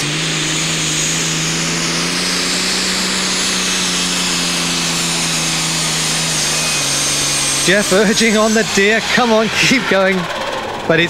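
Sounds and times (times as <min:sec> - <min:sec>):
high turbo whine: 0:00.0 - 0:11.0
tractor diesel engine at full power: 0:00.0 - 0:11.0.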